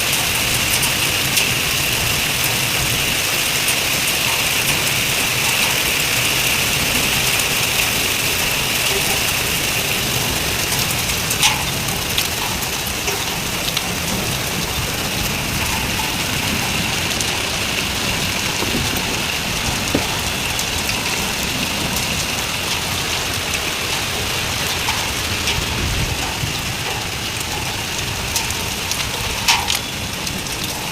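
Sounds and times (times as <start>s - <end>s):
steady rain with drop hits: 0.0s - 30.9s.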